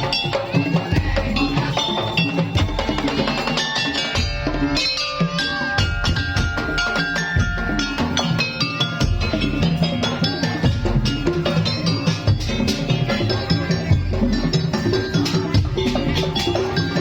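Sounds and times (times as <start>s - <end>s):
ringing melodic tones: 0.0s - 17.0s
wooden slit drums and drums: 0.0s - 17.0s.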